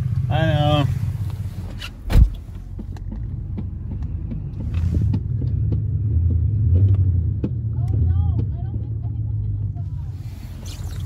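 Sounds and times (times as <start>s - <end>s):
road noise inside vehicle: 0.0s - 11.0s.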